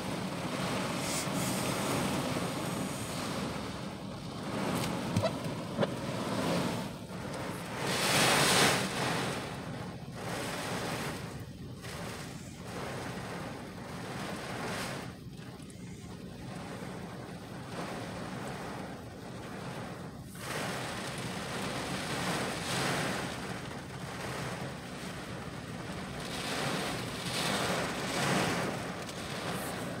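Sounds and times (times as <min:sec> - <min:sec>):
driving rain beating on car: 0:00.0 - 0:30.0
wind gusting against car: 0:00.0 - 0:30.0.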